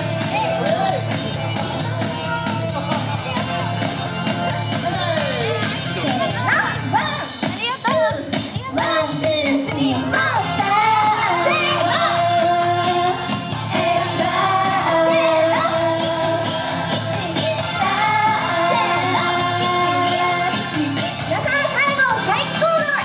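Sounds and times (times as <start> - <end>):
pop song with female vocals: 0.0 - 23.0.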